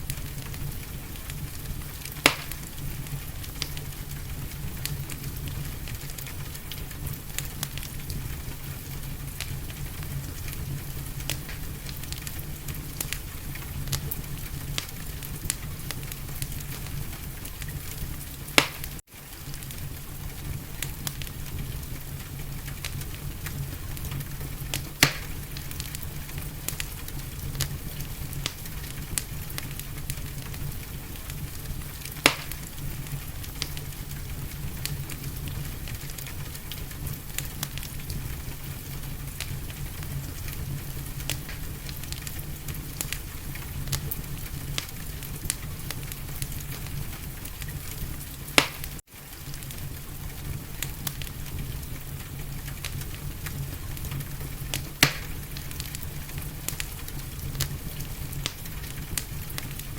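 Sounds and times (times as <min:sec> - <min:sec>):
fire pops: 0:00.0 - 0:59.9
wood fire crackling: 0:00.0 - 0:59.9.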